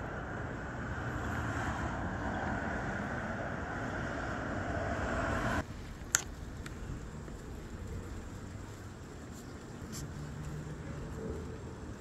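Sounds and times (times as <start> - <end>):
wind rushing through leaves: 0.0 - 12.0.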